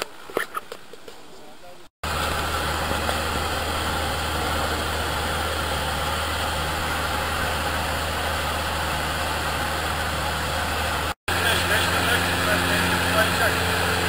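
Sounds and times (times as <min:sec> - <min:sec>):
aircraft engine humming in cabin: 0:02.0 - 0:14.0.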